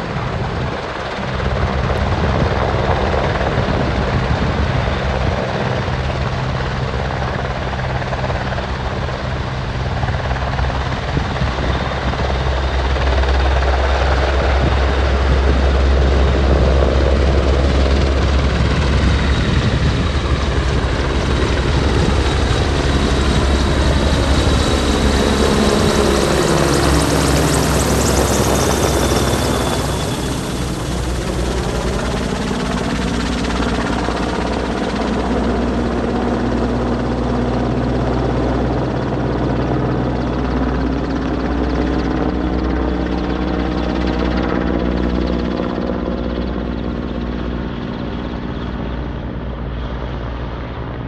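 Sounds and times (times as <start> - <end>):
helicopter flying past: 0.0 - 51.0.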